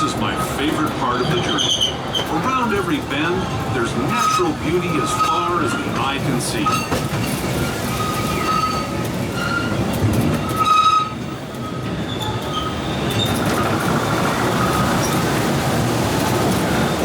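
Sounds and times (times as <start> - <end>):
steam train rumbling along track: 0.0 - 17.0
wheels squealing on rails: 0.0 - 17.0.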